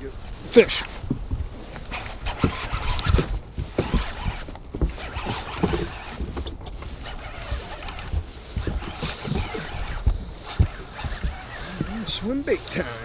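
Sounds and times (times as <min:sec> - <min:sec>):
wind on microphone: 0:00.0 - 0:13.0
fishing reel cranking: 0:01.9 - 0:13.0.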